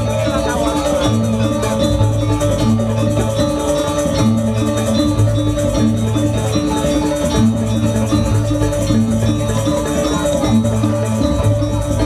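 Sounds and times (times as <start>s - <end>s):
fast steady percussion: 0.0s - 12.0s.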